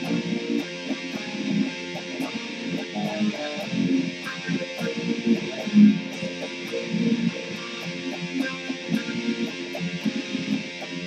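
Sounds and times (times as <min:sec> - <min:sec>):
electric guitar riff: 0:00.0 - 0:11.0.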